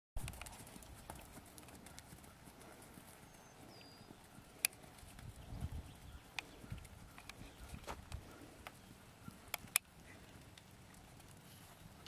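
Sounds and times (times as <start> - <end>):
muffled hoofbeats on sand: 0.2 - 12.0.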